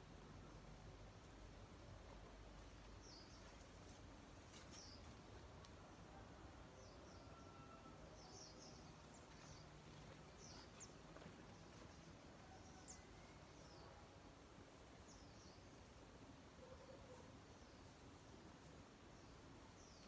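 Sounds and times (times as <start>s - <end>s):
low steady hiss: 0.0s - 20.0s.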